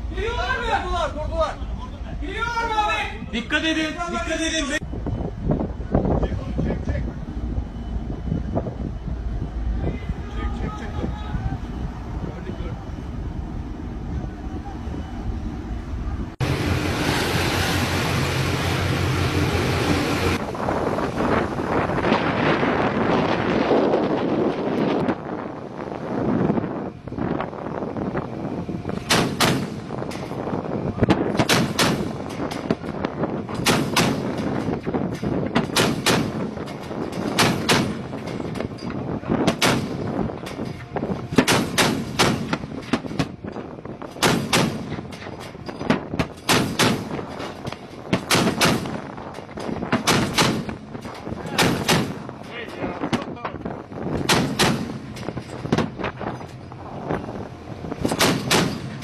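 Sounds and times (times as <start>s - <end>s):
wind noise: 0.0s - 59.0s.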